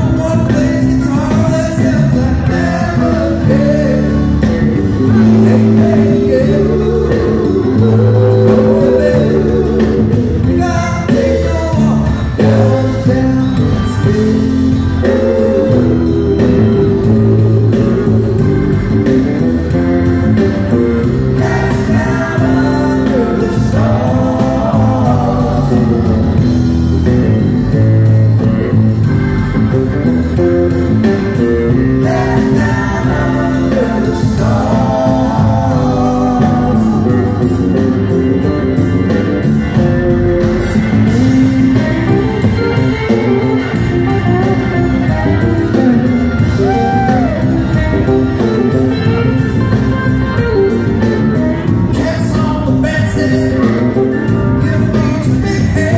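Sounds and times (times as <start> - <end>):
person singing: 0.0 - 19.4, 21.0 - 26.6, 31.5 - 38.5, 41.2 - 55.9
live rock band playing: 0.0 - 55.9.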